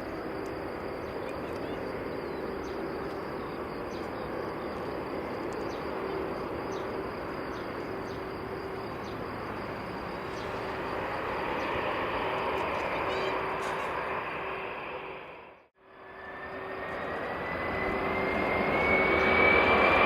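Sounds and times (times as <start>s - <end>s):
jet engines humming and whining: 0.0s - 20.0s.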